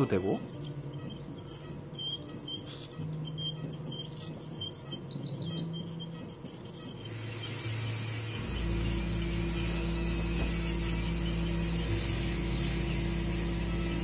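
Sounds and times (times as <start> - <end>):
dental drill high whine: 0.0 - 14.0
steady low hum: 0.0 - 14.0.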